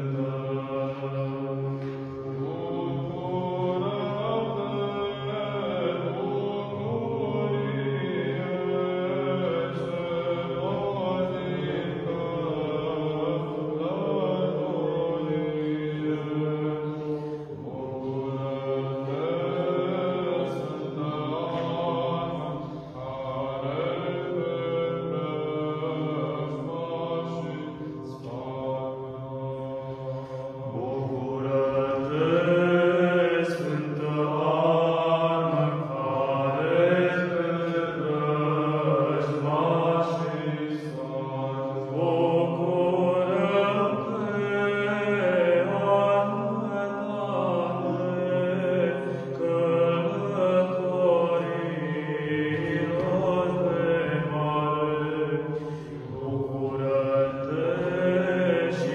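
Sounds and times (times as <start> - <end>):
male choir chanting unaccompanied: 0.0 - 58.9.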